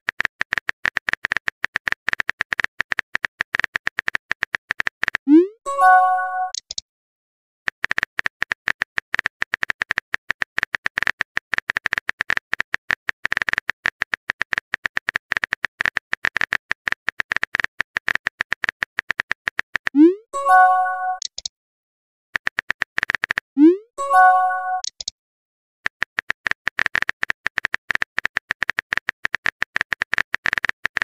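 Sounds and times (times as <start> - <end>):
keyboard typing clicks: 0.1 - 6.8, 7.7 - 21.5, 22.4 - 25.1, 25.9 - 31.0.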